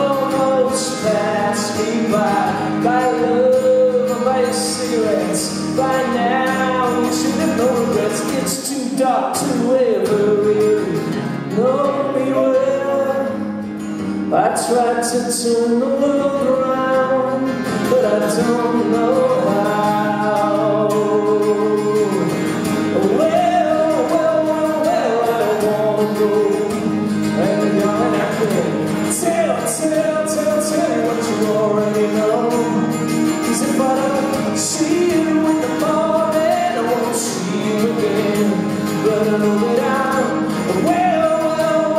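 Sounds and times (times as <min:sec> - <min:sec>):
man singing: 0:00.0 - 0:41.9
strummed acoustic guitar: 0:00.0 - 0:41.9.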